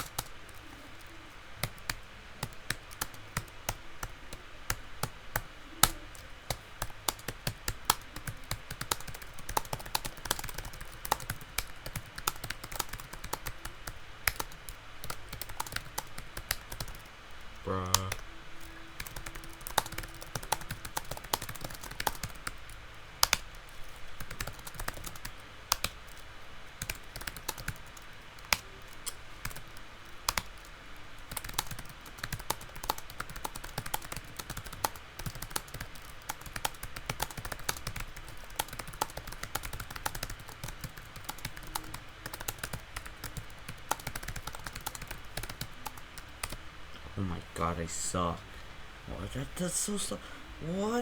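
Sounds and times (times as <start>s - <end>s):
fast keyboard typing: 0.0s - 46.6s.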